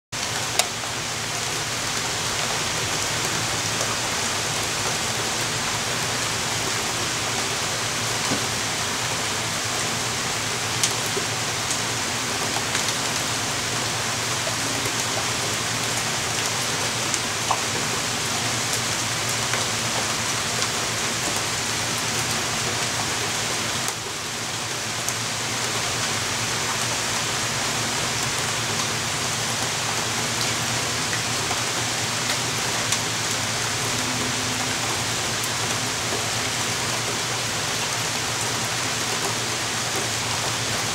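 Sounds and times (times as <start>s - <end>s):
steady rain: 0.2s - 40.9s.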